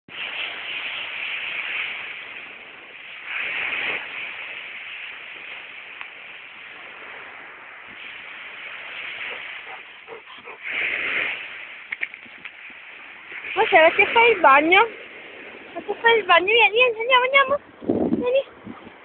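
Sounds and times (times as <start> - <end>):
surf washing onto beach: 0.1 - 19.0.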